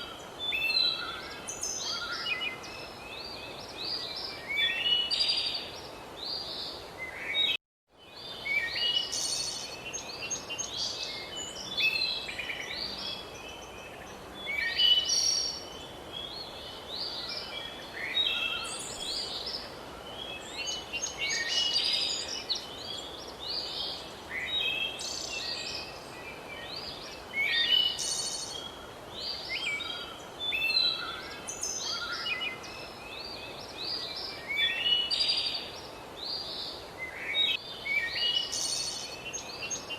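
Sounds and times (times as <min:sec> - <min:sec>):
background hiss: 0:00.0 - 0:39.9
songbirds chirping and trilling: 0:00.0 - 0:39.9.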